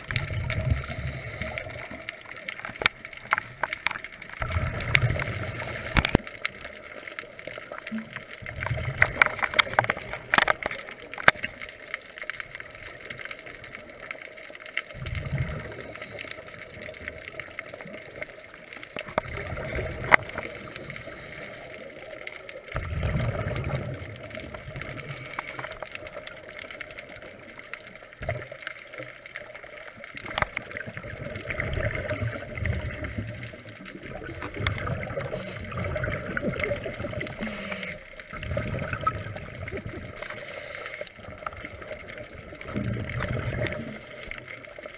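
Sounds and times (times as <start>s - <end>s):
underwater water noise: 0.0s - 44.9s.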